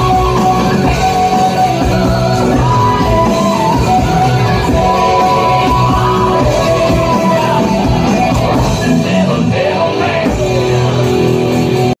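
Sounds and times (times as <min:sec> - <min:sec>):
distorted electric guitar: 0:00.0 - 0:12.0
drums playing: 0:00.0 - 0:12.0.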